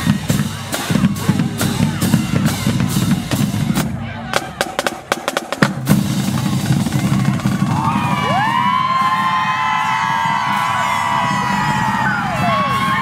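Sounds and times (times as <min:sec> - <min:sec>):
marching drumline cadence: 0:00.0 - 0:13.0.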